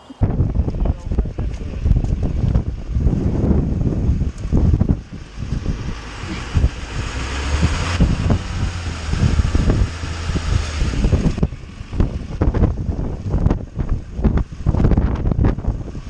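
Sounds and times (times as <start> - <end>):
wind buffeting microphone: 0.0 - 16.0
tire spinning and mud slinging: 1.4 - 16.0
diesel engine revving: 1.5 - 16.0.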